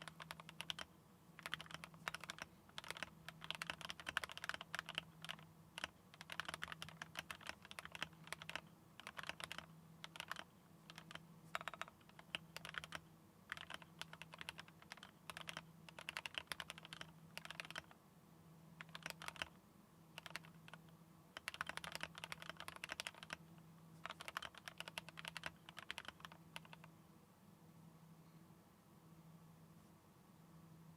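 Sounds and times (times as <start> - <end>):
mechanical keyboard typing: 0.0 - 18.0, 18.8 - 26.9.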